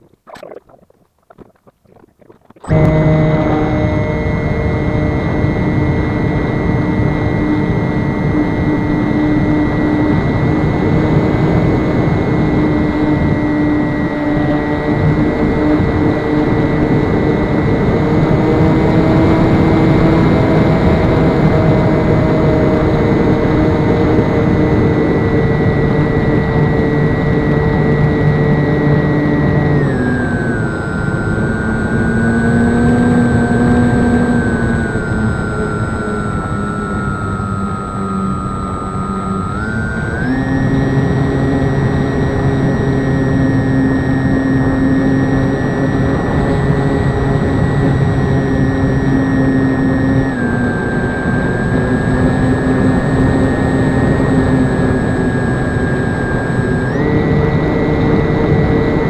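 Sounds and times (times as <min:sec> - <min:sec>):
airplane engine and propeller: 0:02.6 - 0:59.0.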